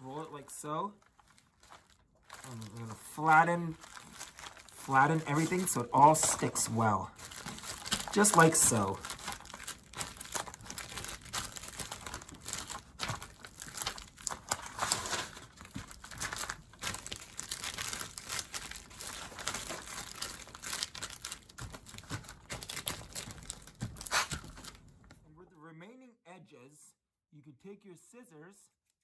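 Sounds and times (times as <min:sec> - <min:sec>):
plastic shelf liner crinkling: 0:00.1 - 0:25.1.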